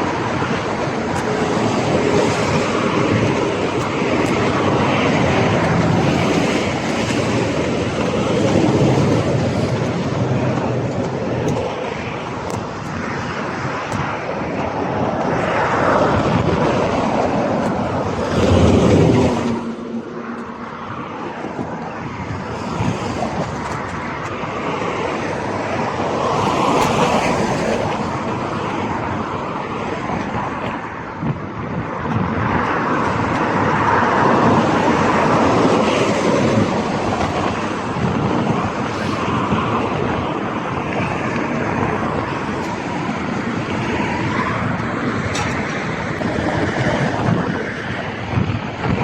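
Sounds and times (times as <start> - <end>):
cars passing: 0.0 - 49.0
road noise: 0.0 - 49.0.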